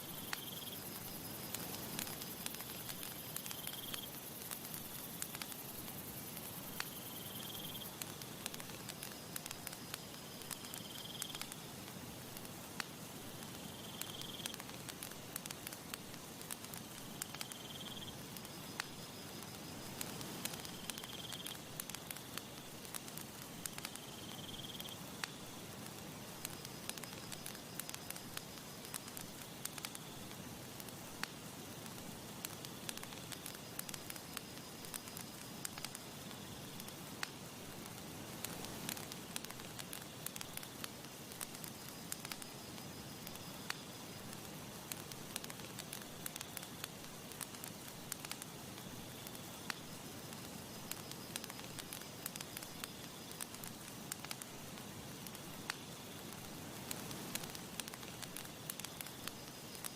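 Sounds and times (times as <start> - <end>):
campfire crackling and popping: 0.0 - 59.9
soft fire hiss: 0.0 - 59.9.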